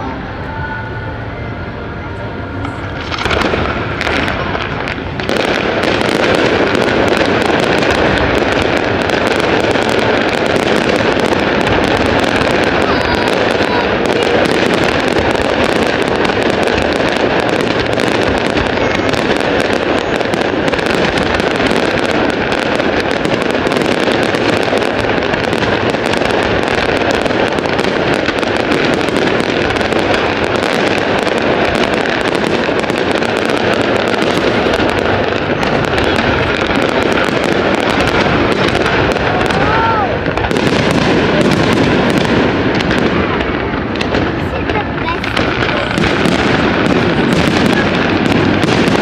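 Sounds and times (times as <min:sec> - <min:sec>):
fireworks banging: 0:00.0 - 0:49.0.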